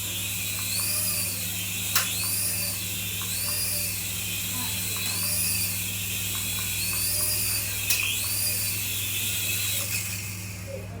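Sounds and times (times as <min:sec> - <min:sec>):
toy electric motor whirring: 0:00.0 - 0:11.0.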